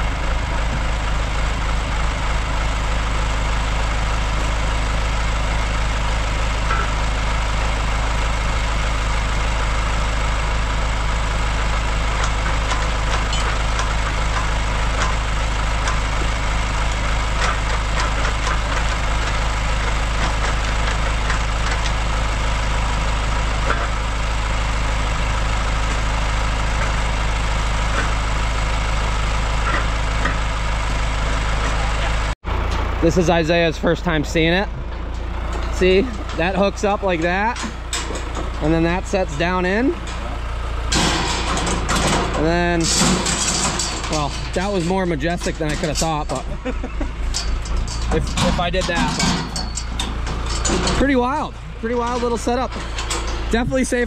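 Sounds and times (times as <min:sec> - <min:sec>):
farm machine engine idling: 0:00.0 - 0:54.0.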